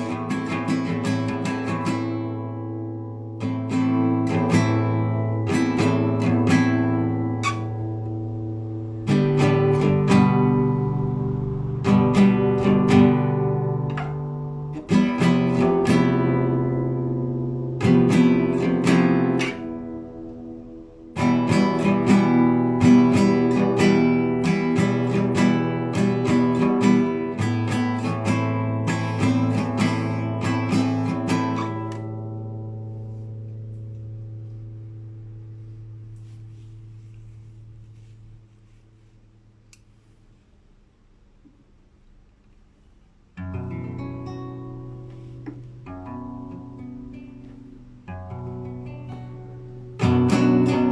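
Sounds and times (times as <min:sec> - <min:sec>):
classical guitar arpeggios: 0:00.0 - 0:38.8, 0:43.4 - 0:50.9.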